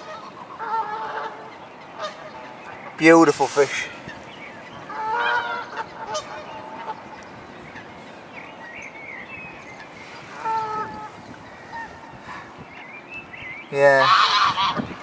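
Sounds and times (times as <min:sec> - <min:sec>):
geese honking: 0:00.0 - 0:08.2, 0:10.0 - 0:12.6, 0:13.7 - 0:15.0.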